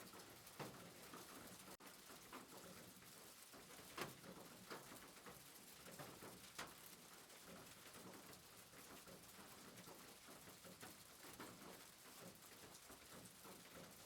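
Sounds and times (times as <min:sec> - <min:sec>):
soft rain hiss: 0:00.0 - 0:14.0
raindrop ticks: 0:00.1 - 0:14.0.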